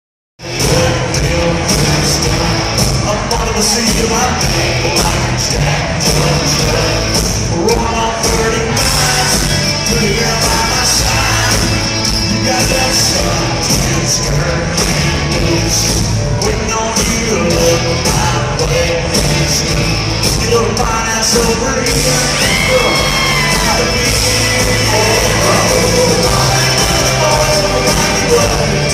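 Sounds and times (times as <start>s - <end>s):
crowd yelling: 0.4s - 28.9s
live country rock music: 0.4s - 28.9s
person singing: 0.4s - 28.9s.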